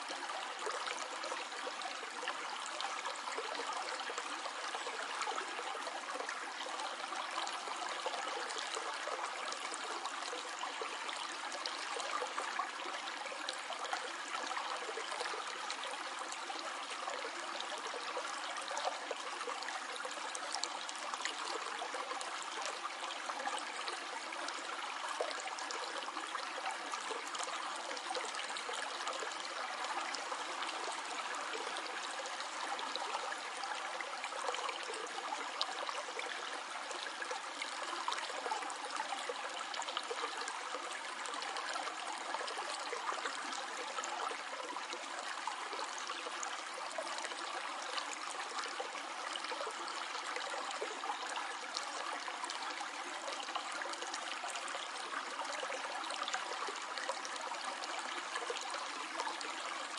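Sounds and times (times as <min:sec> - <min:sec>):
stream water flowing over stones: 0:00.0 - 0:59.9.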